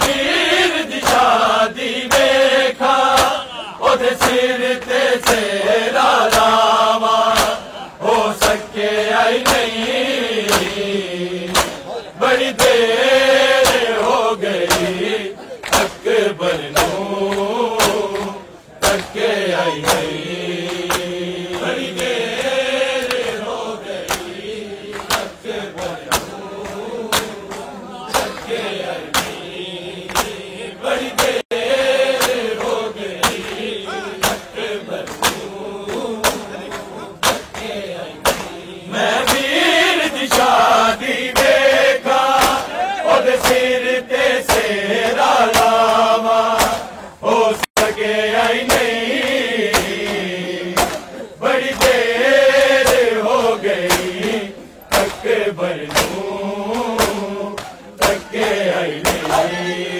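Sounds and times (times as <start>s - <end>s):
crowd slapping chests: 0.0s - 59.9s
men chanting a lament: 0.0s - 59.9s.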